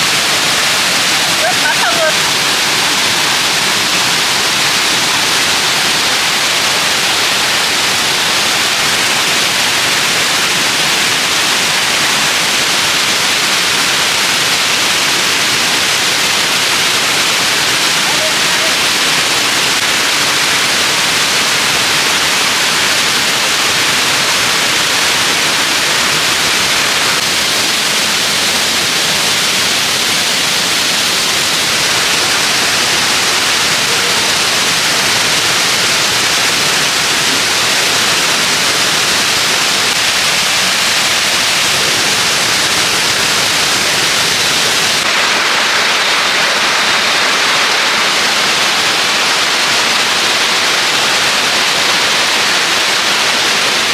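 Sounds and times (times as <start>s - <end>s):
waterfall roaring: 0.0s - 53.9s.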